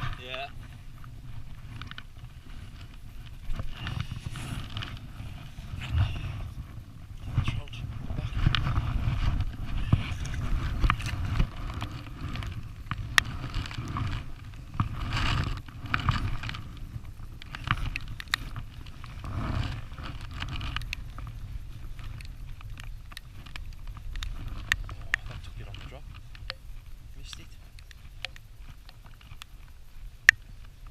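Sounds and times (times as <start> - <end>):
rustles: 0.0 - 30.9
wind buffeting microphone: 0.0 - 30.9.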